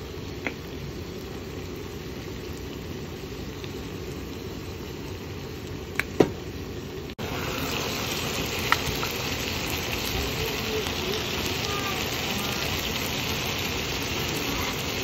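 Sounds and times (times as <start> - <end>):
meat sizzling in sandwich maker: 0.0 - 15.0.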